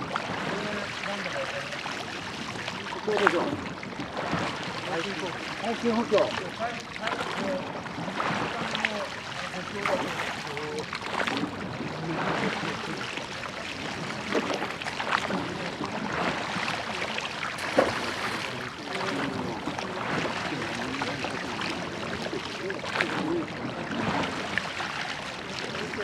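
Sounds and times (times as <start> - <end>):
water splashing along boat hull: 0.0 - 26.0.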